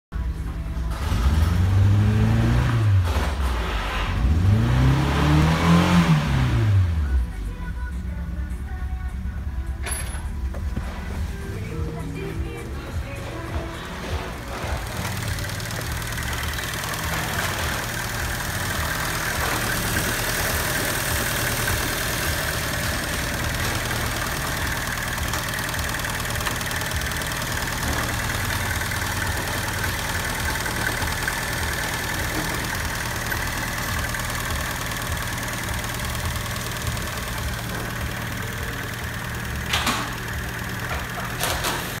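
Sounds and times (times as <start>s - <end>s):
car engine idling: 6.8s - 42.0s.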